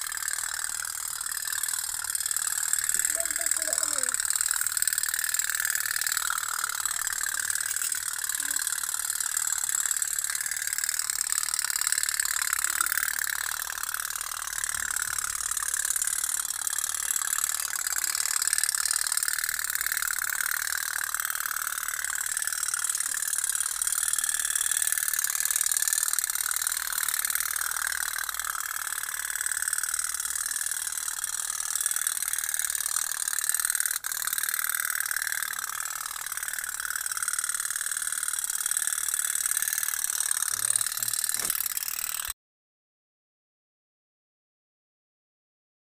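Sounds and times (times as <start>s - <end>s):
toy steam boat putt-putt: 0.0s - 42.4s.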